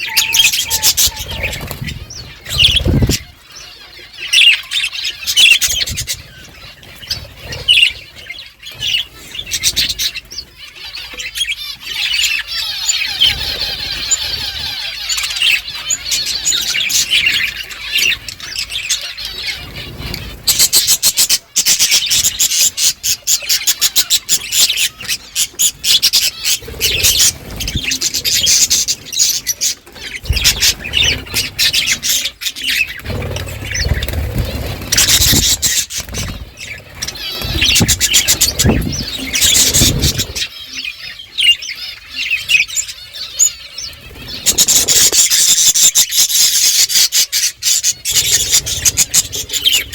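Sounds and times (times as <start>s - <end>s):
budgerigars chirping: 0.0s - 49.9s.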